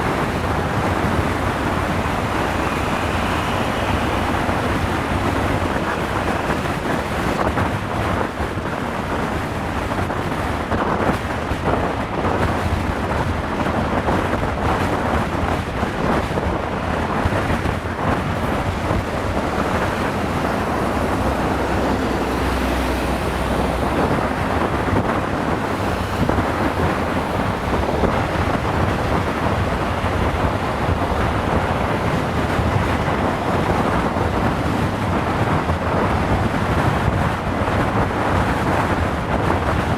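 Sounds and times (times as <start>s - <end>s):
road and engine noise: 0.0s - 39.9s
wind buffeting microphone: 0.0s - 39.9s.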